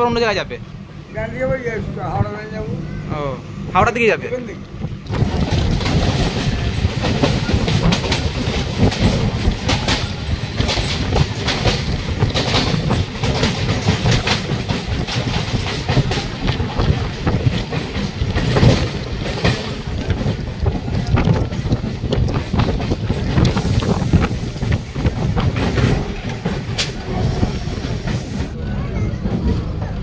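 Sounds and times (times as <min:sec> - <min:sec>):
train passing alongside: 0:00.0 - 0:30.0
train wheels clattering over rails: 0:04.8 - 0:30.0.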